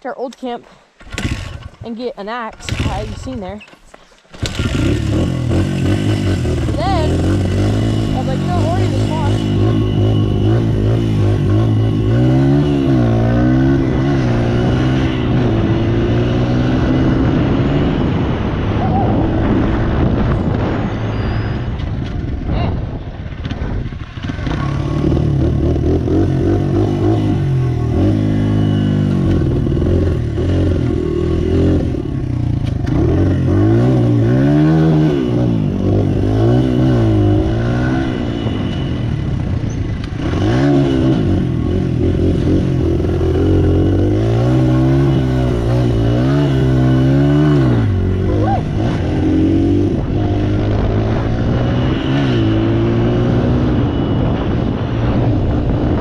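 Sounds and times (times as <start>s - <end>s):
dirt bike engine revving: 0.4s - 3.6s, 4.3s - 22.0s, 23.3s - 56.0s.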